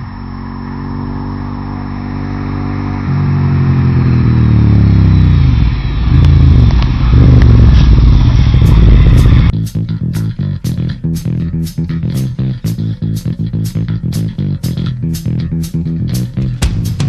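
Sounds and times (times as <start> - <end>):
motorcycle engine approaching: 0.0 - 17.0.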